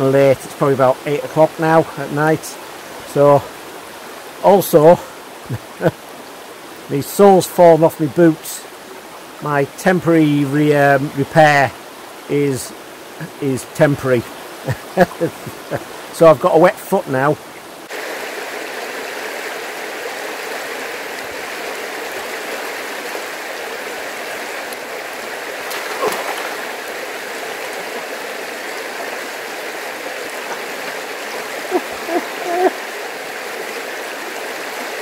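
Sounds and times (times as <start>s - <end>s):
stream rushing over stones: 0.0s - 35.0s.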